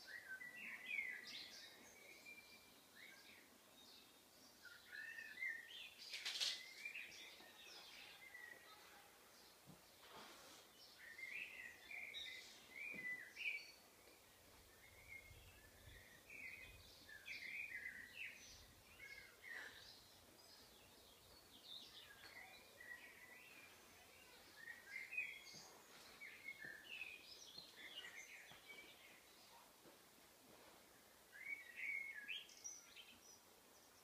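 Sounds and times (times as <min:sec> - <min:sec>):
faint birdsong chirps: 0:00.0 - 0:34.0.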